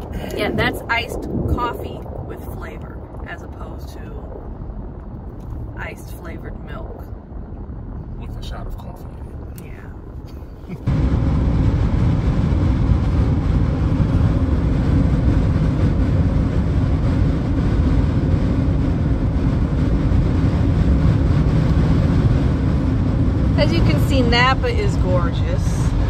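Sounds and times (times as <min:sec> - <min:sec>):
car road rumble and tyre noise: 0:00.0 - 0:26.0.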